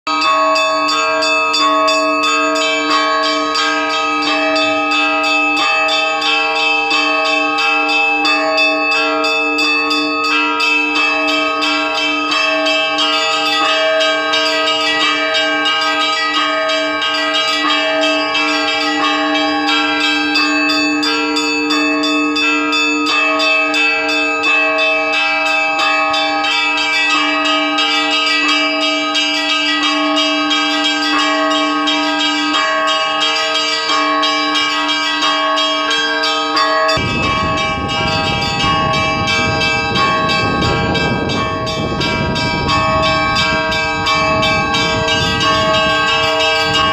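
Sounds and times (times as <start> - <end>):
church bells pealing: 0.1 - 46.9.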